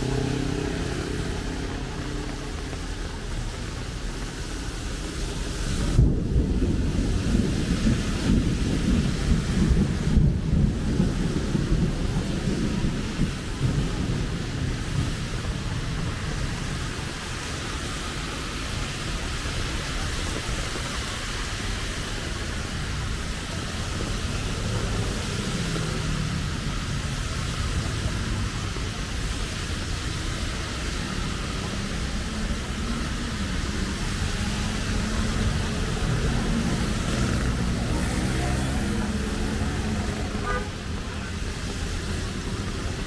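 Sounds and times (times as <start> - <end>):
passing vehicle engines: 0.0 - 43.0
road traffic rumble: 0.0 - 43.0
steady rain hiss: 0.0 - 43.0.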